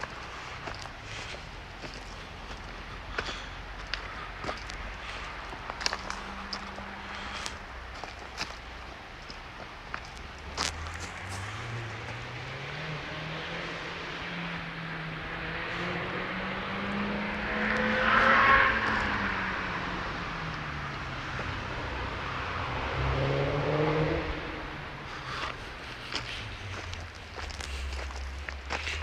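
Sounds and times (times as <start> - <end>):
vehicle engine passing by: 0.0 - 7.7, 10.5 - 29.0.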